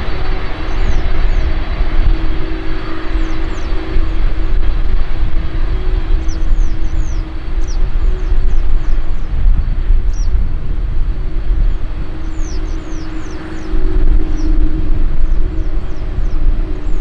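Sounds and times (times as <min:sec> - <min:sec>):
jet engine rumble: 0:00.0 - 0:17.0
small birds chirping: 0:00.0 - 0:17.0.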